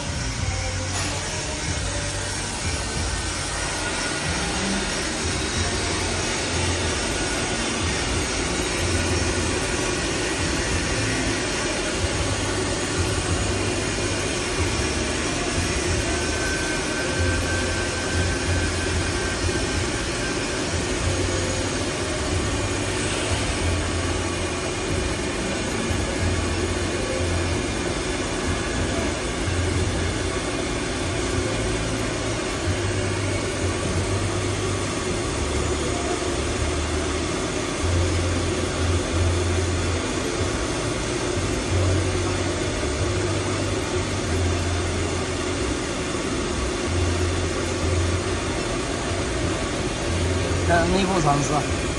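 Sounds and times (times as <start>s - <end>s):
machinery whirring: 0.0s - 51.9s.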